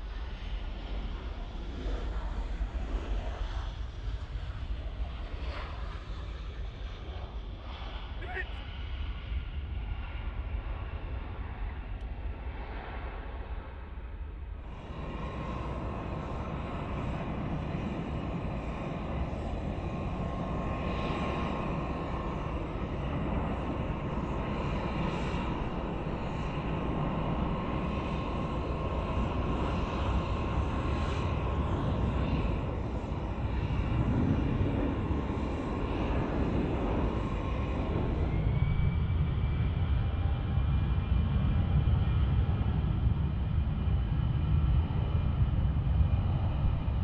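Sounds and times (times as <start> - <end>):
jet engines whine and rumble: 0.0 - 47.0.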